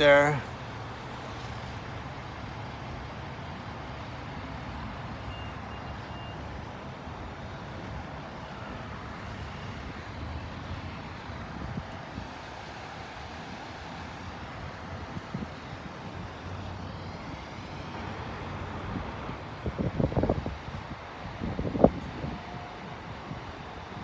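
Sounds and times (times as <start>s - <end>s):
road vehicle noise: 0.0s - 24.0s.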